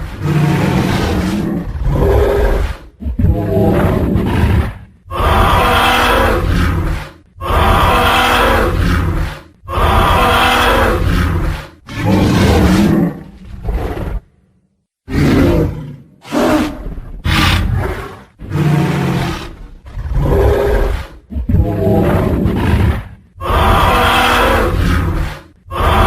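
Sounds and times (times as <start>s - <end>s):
dinosaur roars: 0.0s - 14.3s, 15.1s - 26.0s.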